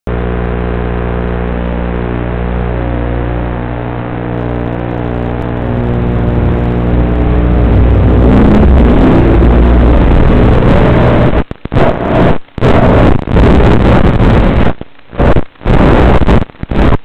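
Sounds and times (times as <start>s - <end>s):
rough static hiss: 0.1s - 17.0s.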